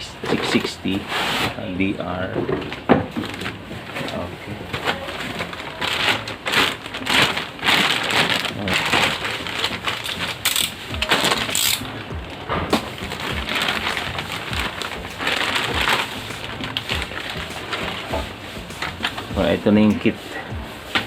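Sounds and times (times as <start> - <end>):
packaging crinkling and rustling: 2.4 - 21.0.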